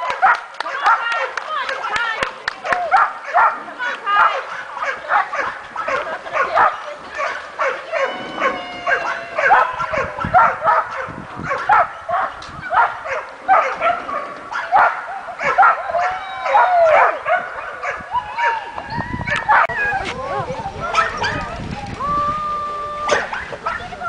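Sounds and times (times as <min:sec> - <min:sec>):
dog barking and yelping: 0:02.9 - 0:21.6, 0:23.1 - 0:24.0.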